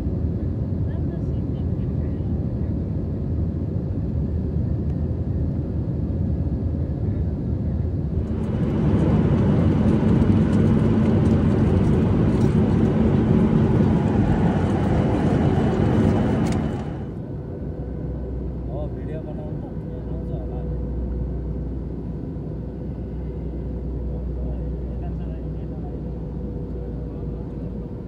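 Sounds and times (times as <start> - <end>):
low steady hum: 0.0 - 28.0
jet engines droning: 3.3 - 28.0.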